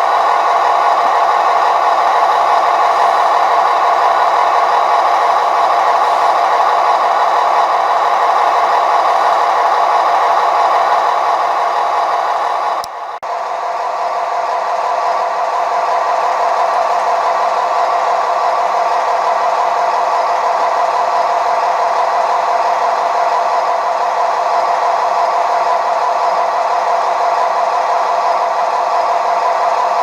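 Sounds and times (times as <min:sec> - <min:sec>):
model train whirring and rattling: 0:00.0 - 0:30.0.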